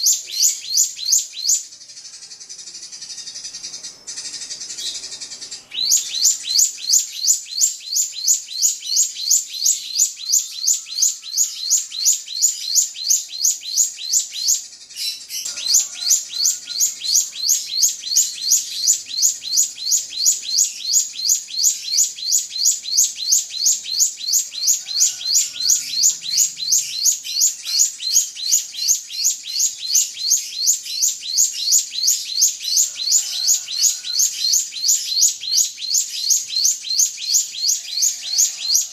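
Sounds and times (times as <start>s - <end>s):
drongo chirping: 0.0s - 38.9s.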